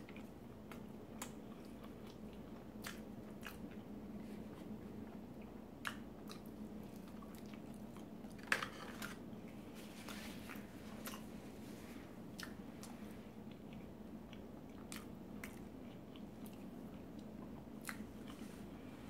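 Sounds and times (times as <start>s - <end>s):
person chewing food: 0.0s - 9.1s, 10.0s - 18.8s.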